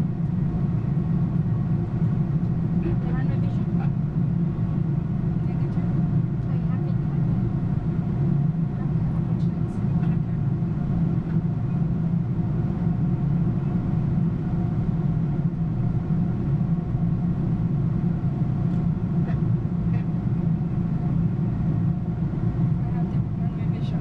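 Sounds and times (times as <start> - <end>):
cockpit low rumble: 0.0 - 24.0.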